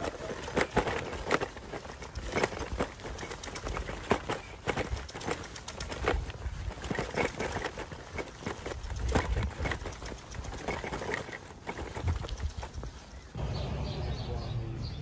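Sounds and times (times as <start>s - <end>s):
footsteps on cobblestones: 0.0s - 13.4s.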